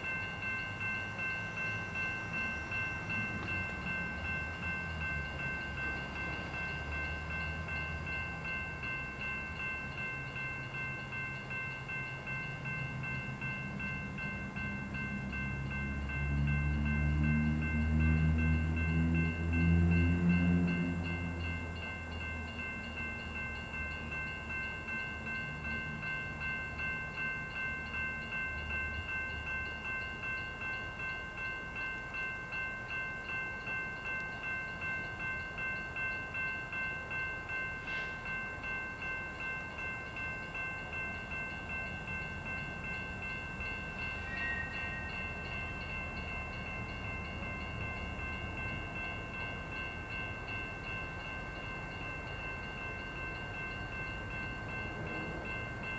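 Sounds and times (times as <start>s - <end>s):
bell ringing: 0.0s - 55.9s
diesel locomotive rumble: 0.0s - 55.9s.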